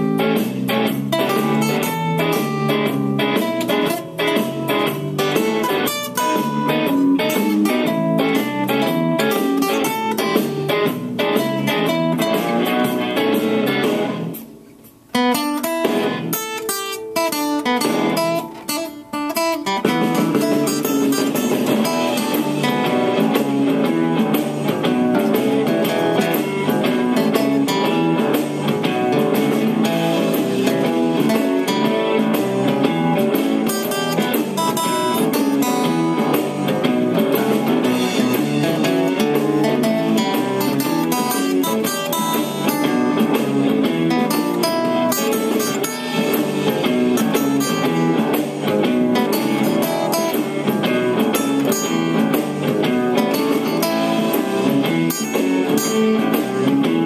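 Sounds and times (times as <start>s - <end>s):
acoustic guitar blues strumming: 0.0s - 57.0s.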